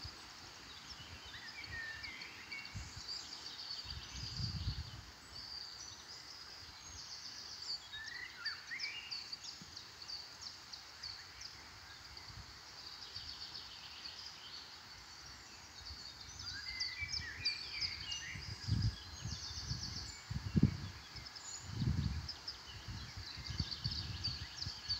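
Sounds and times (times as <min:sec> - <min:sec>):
songbirds chirping and trilling: 0:00.0 - 0:24.9.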